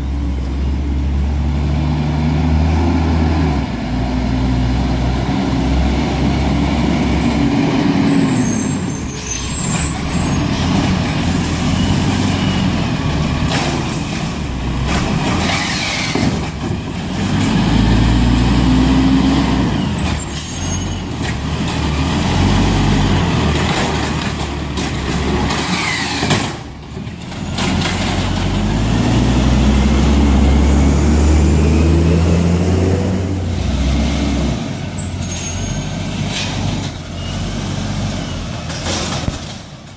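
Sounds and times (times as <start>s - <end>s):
garbage truck engine revving: 1.4s - 39.8s.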